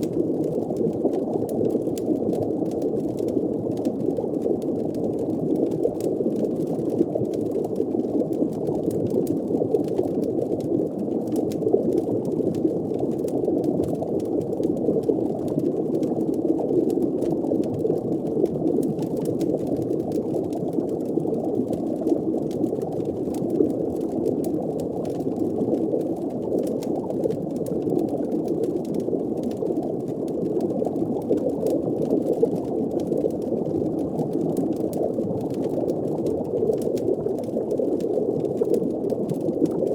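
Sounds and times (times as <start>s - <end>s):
faint fire crackles: 0.0s - 39.9s
water bubbling: 0.0s - 39.9s.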